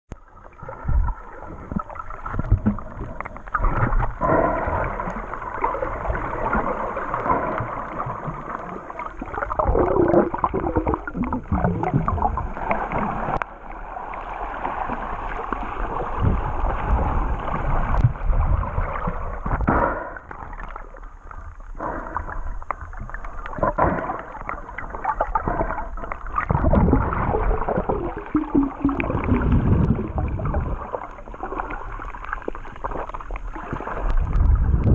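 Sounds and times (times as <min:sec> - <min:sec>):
muffled underwater sloshing: 0:00.1 - 0:34.9.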